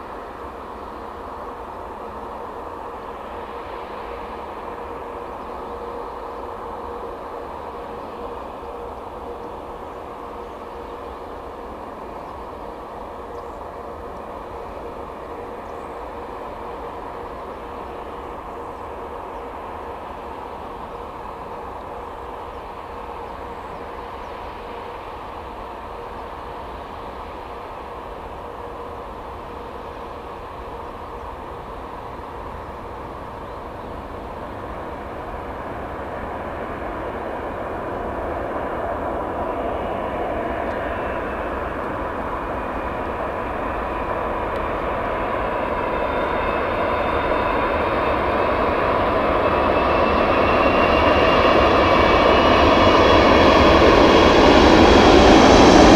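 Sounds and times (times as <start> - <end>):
jet engines on landing approach: 0.0 - 55.9.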